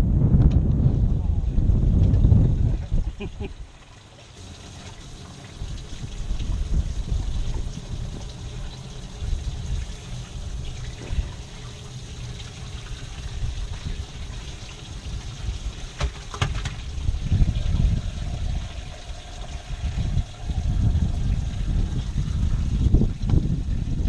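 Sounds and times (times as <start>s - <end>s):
low uneven rumble: 0.0s - 24.0s
water trickling and splashing: 2.0s - 24.0s.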